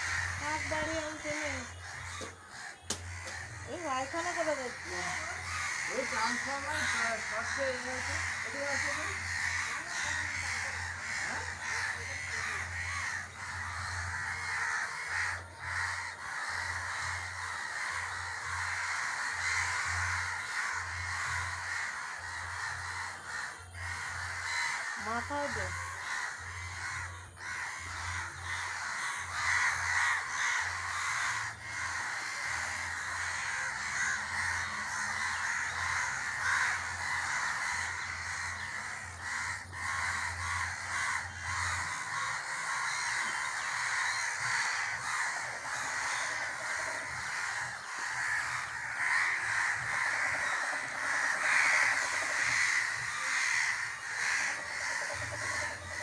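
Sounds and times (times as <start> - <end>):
crows cawing: 0.0 - 56.0.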